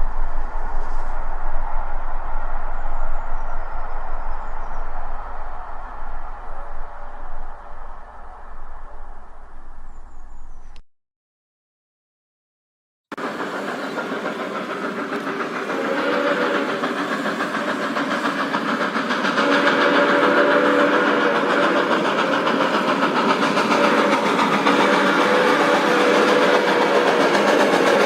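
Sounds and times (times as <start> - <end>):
steam train rattling: 0.0 - 10.0, 13.1 - 28.0
steam train held tone: 0.0 - 10.5, 13.1 - 28.0.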